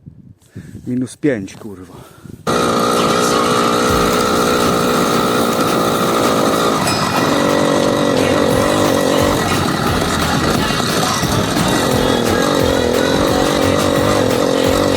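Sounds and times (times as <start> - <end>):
two-stroke engine running: 2.5 - 14.9.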